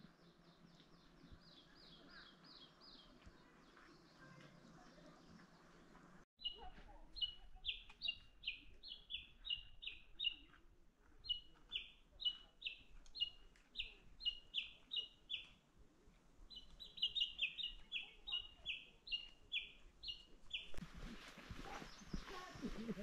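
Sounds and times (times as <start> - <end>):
songbird singing downslurred notes: 0.1 - 10.6, 11.2 - 15.6, 16.5 - 20.8.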